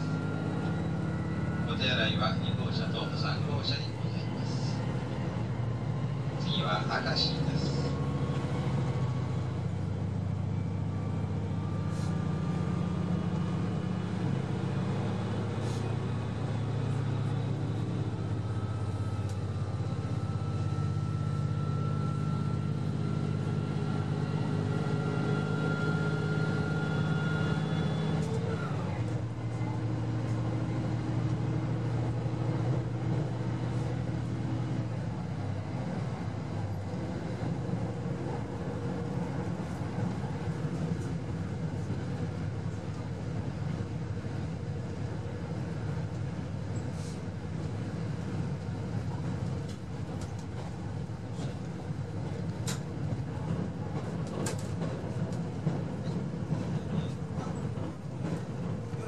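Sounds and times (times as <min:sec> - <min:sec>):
diesel railcar engine drone: 0:00.0 - 0:59.0.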